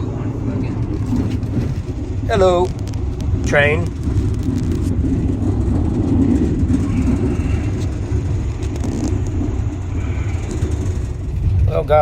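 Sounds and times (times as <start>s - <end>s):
train rumbling inside compartment: 0.0s - 12.0s.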